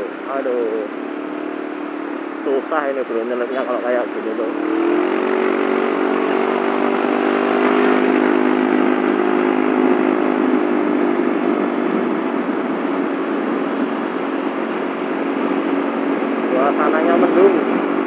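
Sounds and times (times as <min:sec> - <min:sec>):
scooter engine cruising: 0:00.0 - 0:18.0
wind and road noise: 0:00.0 - 0:18.0.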